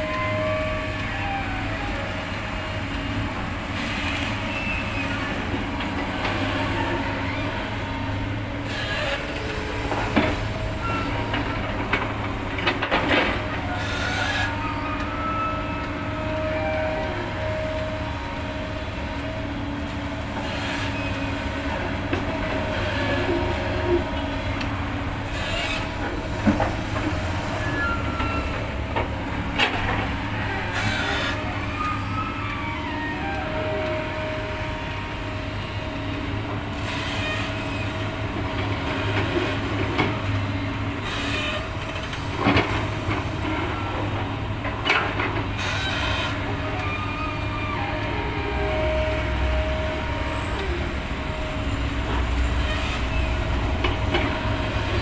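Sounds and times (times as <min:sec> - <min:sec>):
excavator diesel engine: 0:00.0 - 0:55.0
metallic whines and squeals: 0:00.0 - 0:55.0.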